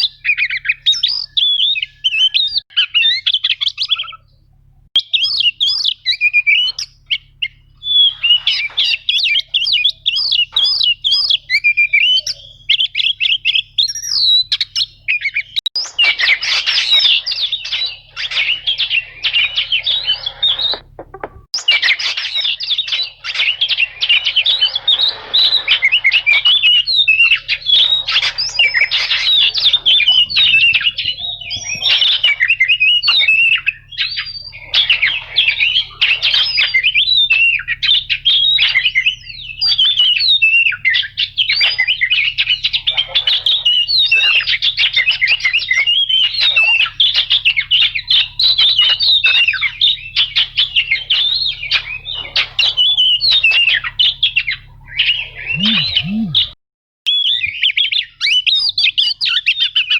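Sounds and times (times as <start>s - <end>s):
bird singing varied whistles: 0.0s - 4.3s, 5.0s - 21.0s, 21.6s - 59.9s
bird harsh chattering: 5.0s - 56.6s.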